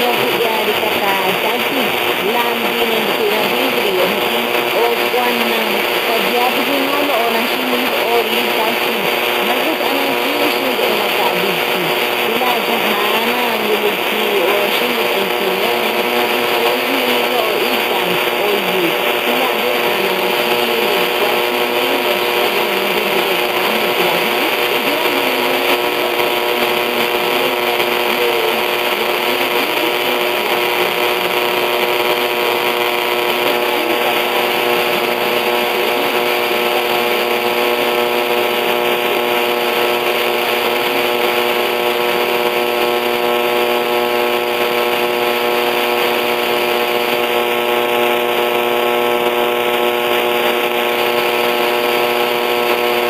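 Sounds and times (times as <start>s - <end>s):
buzzing interference tones: 0.0s - 53.0s
faint wavering radio audio: 0.0s - 53.0s
radio static hiss: 0.0s - 53.0s.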